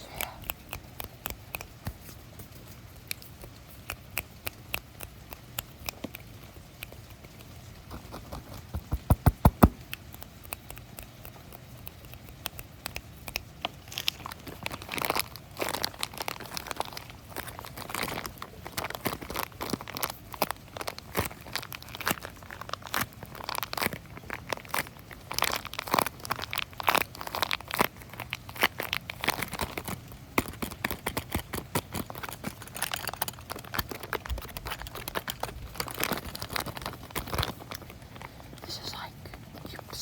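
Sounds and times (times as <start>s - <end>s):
fingers crinkling crinkly material: 0.0s - 40.0s.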